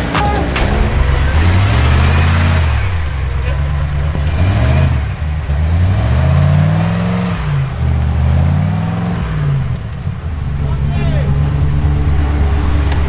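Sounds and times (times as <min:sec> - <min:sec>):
engine revving: 0:00.0 - 0:10.6.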